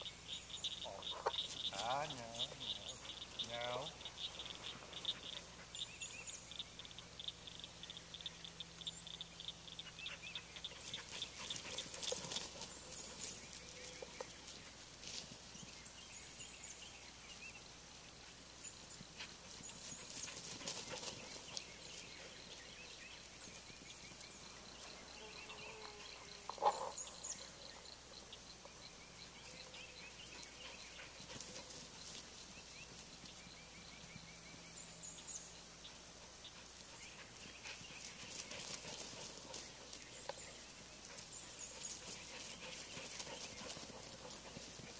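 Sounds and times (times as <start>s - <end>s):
bird chirps: 0.0s - 14.7s, 18.6s - 44.9s
steady insect tone: 0.0s - 15.2s, 17.4s - 44.8s.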